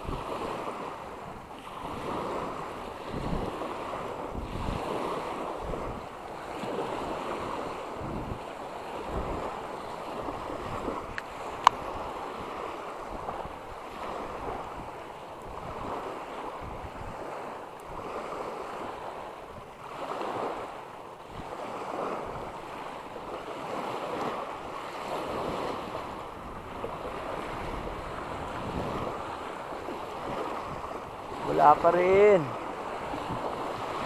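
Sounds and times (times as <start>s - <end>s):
small waves washing ashore: 0.0s - 34.0s
wind buffeting microphone: 0.0s - 34.0s.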